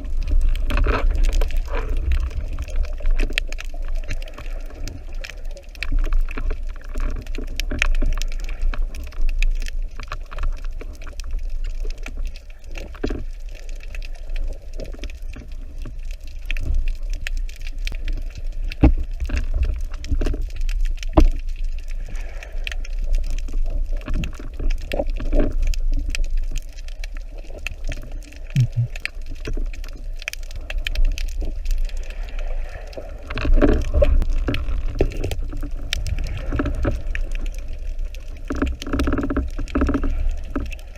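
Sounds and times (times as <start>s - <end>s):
small underwater clicks: 0.0s - 40.9s
underwater water rumble: 0.0s - 40.9s.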